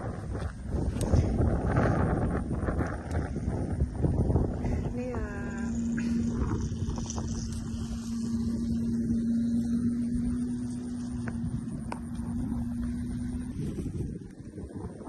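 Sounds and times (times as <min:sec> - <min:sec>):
steady low hum: 0:00.0 - 0:15.0
wind on microphone: 0:00.0 - 0:15.0.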